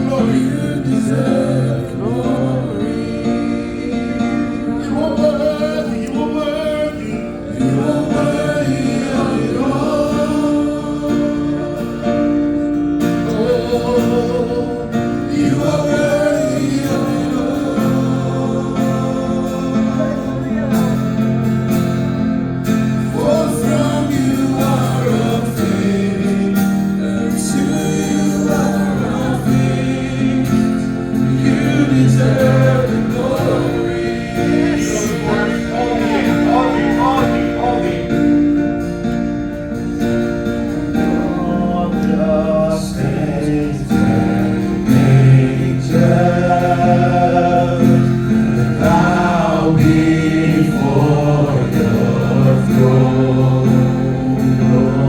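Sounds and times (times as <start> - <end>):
choir singing gospel: 0.0 - 55.0
sustained instrumental chords: 0.0 - 55.0.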